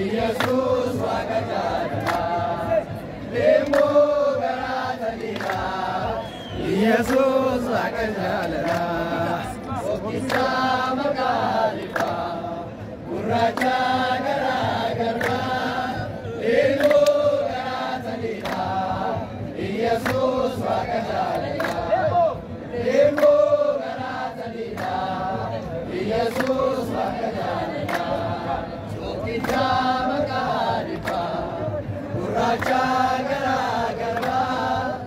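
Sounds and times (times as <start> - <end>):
group chanting: 0.0 - 35.0
hand clapping: 0.1 - 2.7, 3.4 - 9.2, 9.9 - 12.4, 13.1 - 15.8, 16.7 - 19.1, 19.8 - 22.1, 22.9 - 25.3, 26.2 - 31.6, 32.2 - 35.0.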